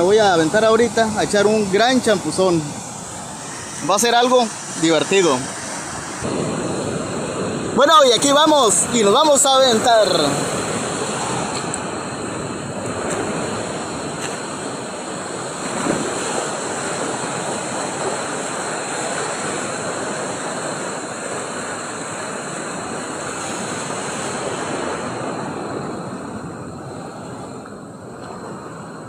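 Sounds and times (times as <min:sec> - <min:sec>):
sea surf breaking: 0:00.0 - 0:29.0
wind on microphone: 0:00.0 - 0:29.0.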